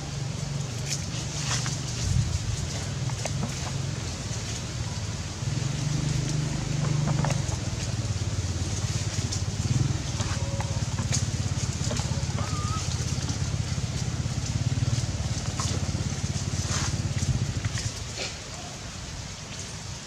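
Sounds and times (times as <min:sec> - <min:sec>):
low engine drone: 0:00.0 - 0:18.1.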